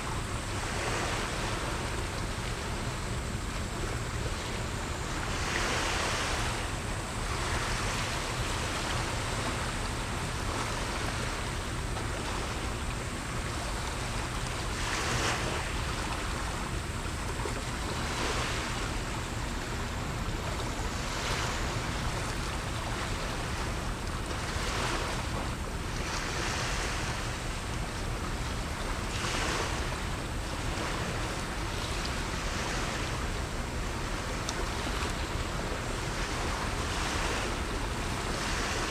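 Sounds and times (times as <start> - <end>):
small sea waves washing in: 0.0 - 38.9.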